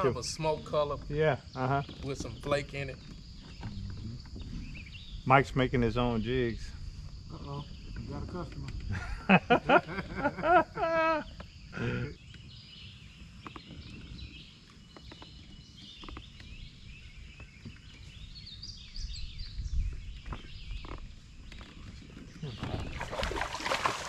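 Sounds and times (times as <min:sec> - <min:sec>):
birds chirping: 0:00.0 - 0:24.0
high insect hum: 0:00.0 - 0:24.0.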